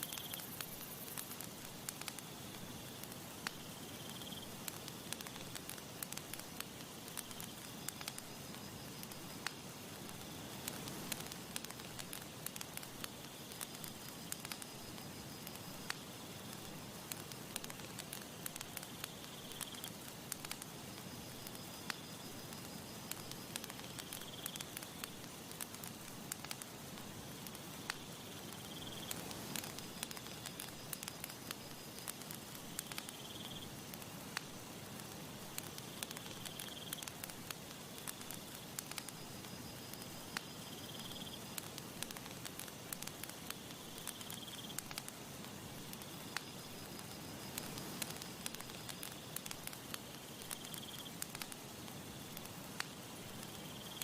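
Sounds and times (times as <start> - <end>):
burning wood popping: 0.0 - 54.0
campfire crackling: 0.0 - 54.0.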